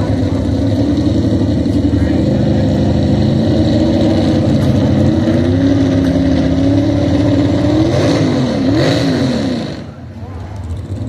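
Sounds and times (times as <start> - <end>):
truck engine running loud: 0.0 - 11.0.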